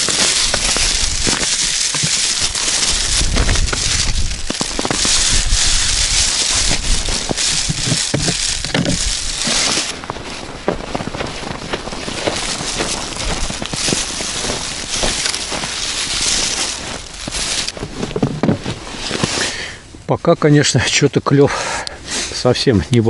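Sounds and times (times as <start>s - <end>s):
small crackles and knocks: 0.0s - 19.5s
plastic bag rustling: 0.0s - 19.6s
footsteps crunching through snow: 0.0s - 19.7s.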